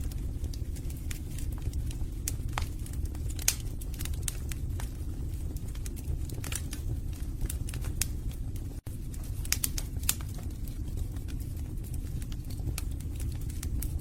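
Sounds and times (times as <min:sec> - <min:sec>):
logs crackling and popping: 0:00.0 - 0:14.0
low rumble of flames: 0:00.0 - 0:14.0.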